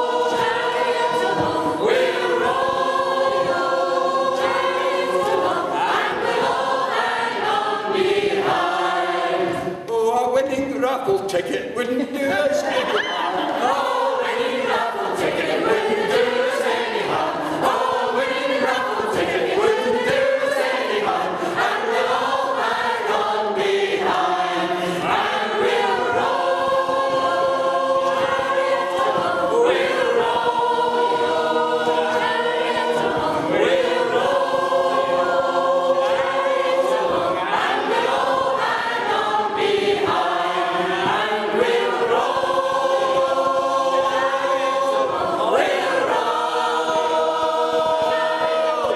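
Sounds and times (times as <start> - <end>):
choir singing unaccompanied: 0.0 - 10.2, 12.5 - 48.9.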